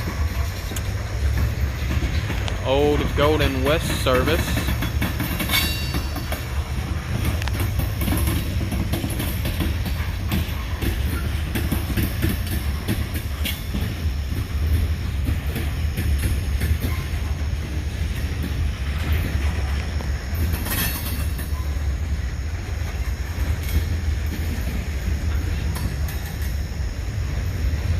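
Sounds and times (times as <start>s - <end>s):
freight train rumbling past: 0.0s - 27.9s
wheels clicking on rails: 0.0s - 27.9s.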